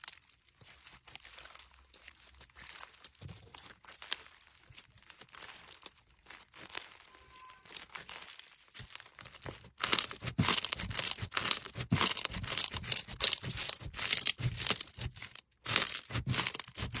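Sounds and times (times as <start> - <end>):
slime crackling and popping: 0.0 - 17.0.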